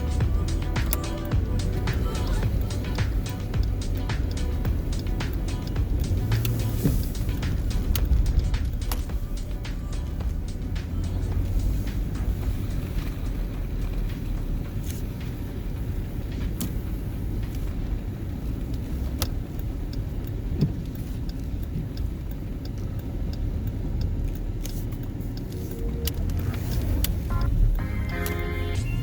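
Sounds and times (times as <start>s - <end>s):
small clicks and ticks: 0.0s - 28.8s
engine and tyres rumbling: 0.0s - 29.0s.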